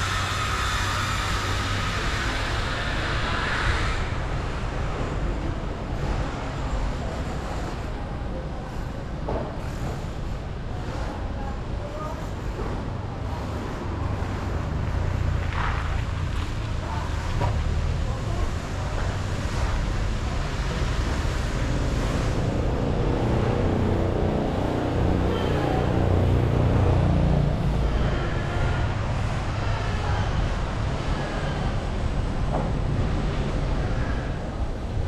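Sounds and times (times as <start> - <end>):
vehicle and road rumble: 0.0 - 35.0.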